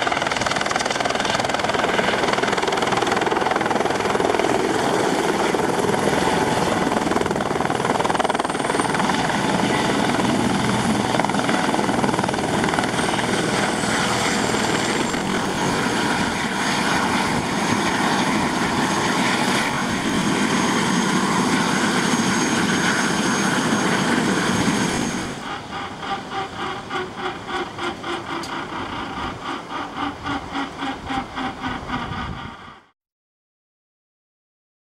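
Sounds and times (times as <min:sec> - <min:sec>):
helicopter rotor blades beating: 0:00.0 - 0:33.0
helicopter turbine whine: 0:00.0 - 0:33.0.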